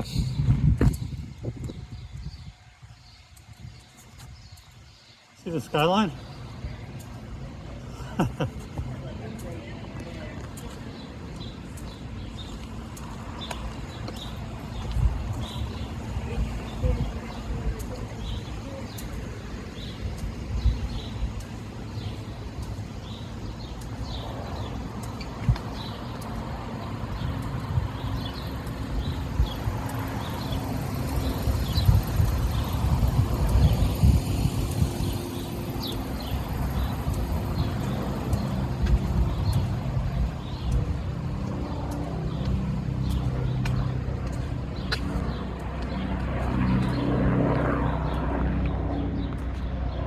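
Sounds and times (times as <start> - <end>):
vehicles passing: 0.0 - 50.0
engine hum: 5.2 - 50.0.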